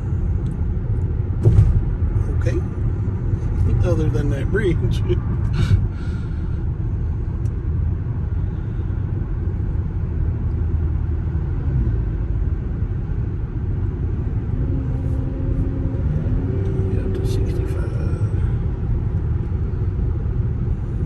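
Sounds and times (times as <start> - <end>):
tire roar inside car: 0.0 - 21.0.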